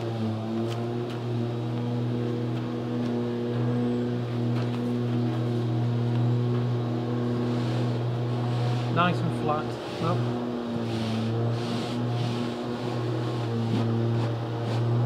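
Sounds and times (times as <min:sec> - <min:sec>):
power tool motor droning: 0:00.0 - 0:15.0.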